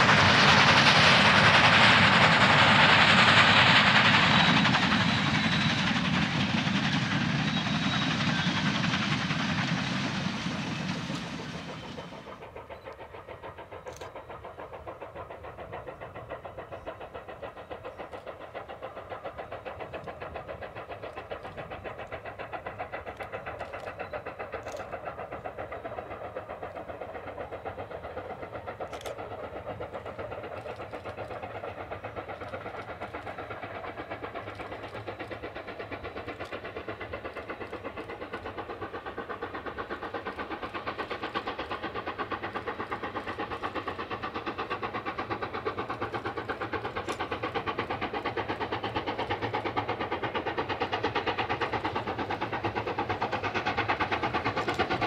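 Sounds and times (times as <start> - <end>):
steam locomotive chuffing: 0.0 - 55.0.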